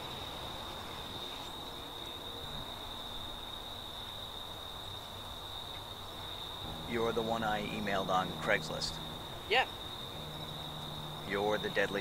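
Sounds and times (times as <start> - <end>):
faint outdoor background hiss: 0.0 - 12.0
high-pitched insect chorus: 0.0 - 12.0.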